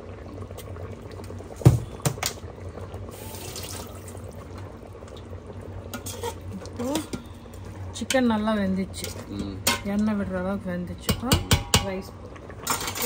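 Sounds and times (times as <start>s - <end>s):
gravy simmering and bubbling: 0.0s - 13.0s.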